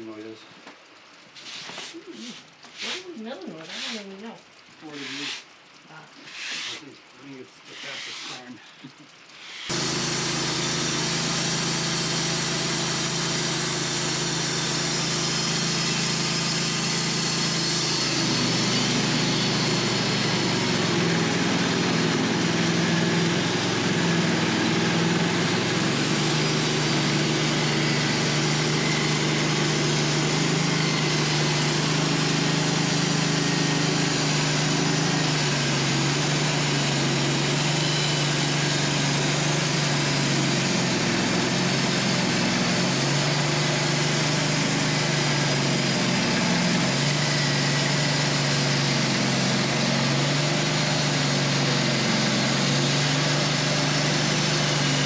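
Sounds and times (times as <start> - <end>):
band sawmill running: 0.0 - 55.0.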